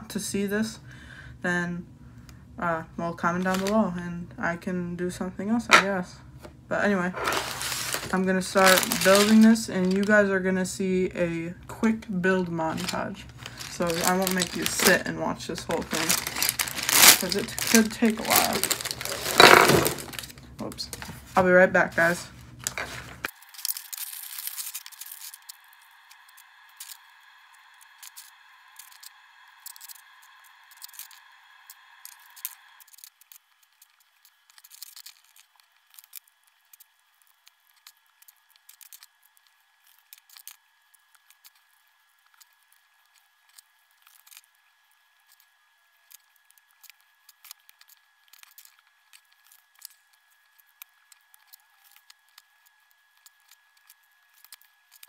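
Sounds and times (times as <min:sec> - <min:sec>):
faint steady whine: 0:00.0 - 0:55.0.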